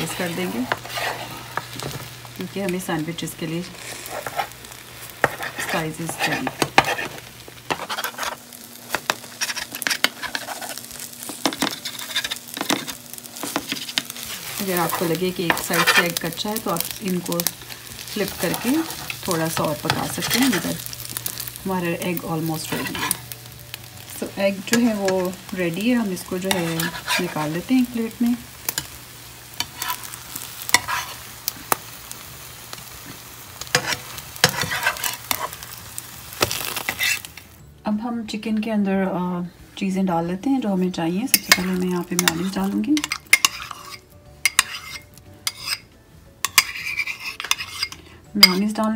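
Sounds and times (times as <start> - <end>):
spatula scraping frying pan: 0.0 - 2.2, 3.6 - 23.4, 24.3 - 31.6, 33.6 - 35.8, 36.4 - 37.5, 41.3 - 48.8
faint sizzle: 0.0 - 48.9.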